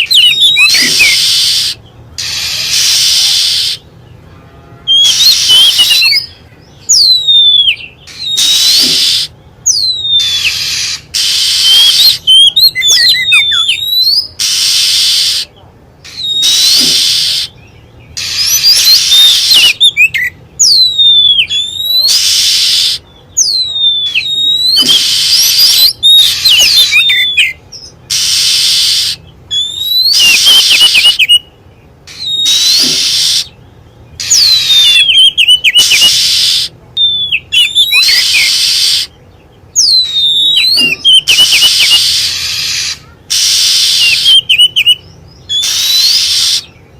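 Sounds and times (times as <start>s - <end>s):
bird whistled notes: 0.0s - 3.8s, 4.9s - 15.5s, 16.1s - 31.5s, 32.1s - 33.6s, 34.2s - 46.8s.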